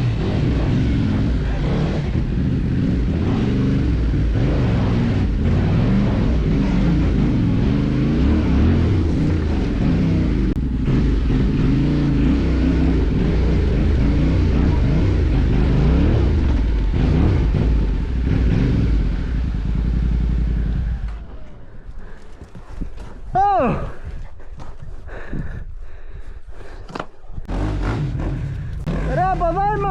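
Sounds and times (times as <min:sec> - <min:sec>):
motorcycle engine revving: 0:00.0 - 0:24.0, 0:27.3 - 0:29.9.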